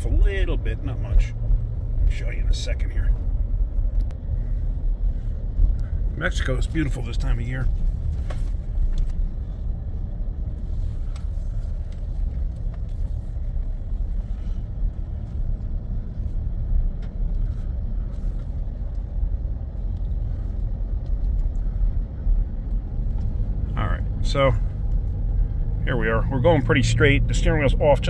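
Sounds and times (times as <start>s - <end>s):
truck cabin engine and road rumble: 0.0s - 28.0s.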